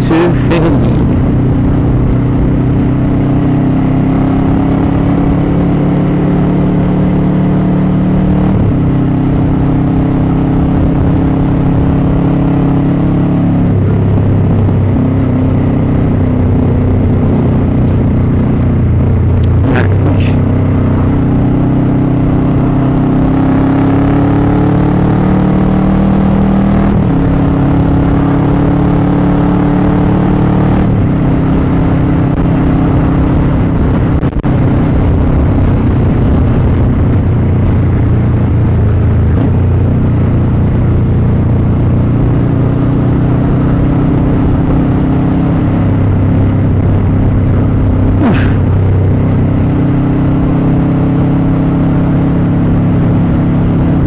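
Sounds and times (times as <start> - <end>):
motorcycle engine running: 0.0 - 30.2, 30.9 - 54.0.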